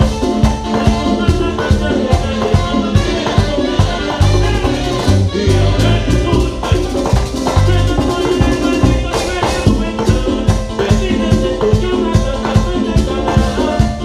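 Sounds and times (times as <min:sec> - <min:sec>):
live band playing latin dance music: 0:00.0 - 0:14.0
percussion on a steady beat: 0:00.0 - 0:14.0
prominent bass line: 0:00.0 - 0:14.0.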